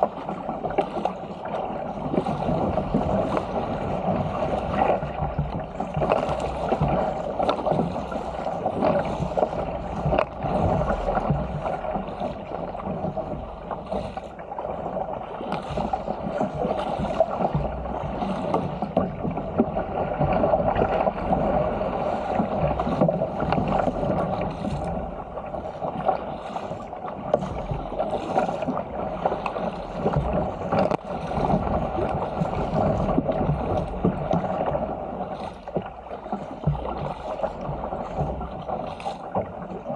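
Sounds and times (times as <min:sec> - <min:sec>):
paddle splashes: 0:00.0 - 0:39.9
seawater rushing along hull: 0:00.0 - 0:39.9.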